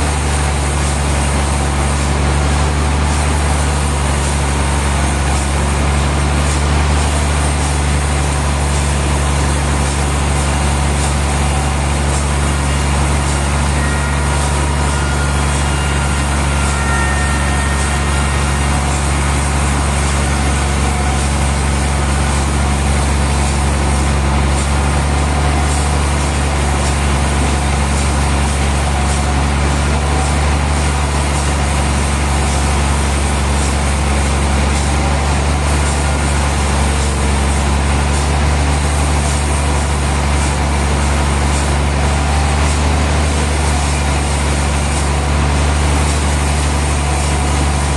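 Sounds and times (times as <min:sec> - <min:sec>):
sawmill machinery engine humming: 0:00.0 - 0:47.9.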